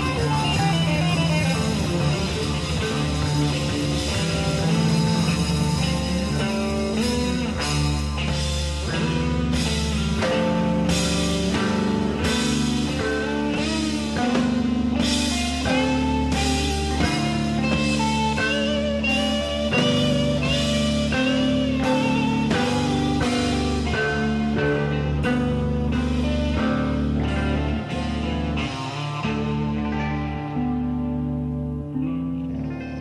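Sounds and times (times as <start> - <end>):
lead electric guitar: 0.0 - 33.0
rock band playing: 0.0 - 33.0.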